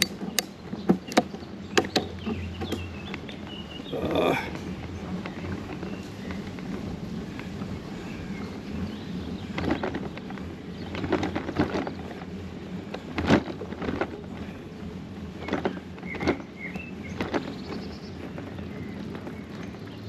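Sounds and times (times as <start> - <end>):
bicycles knocking and rattling: 0.0 - 20.0.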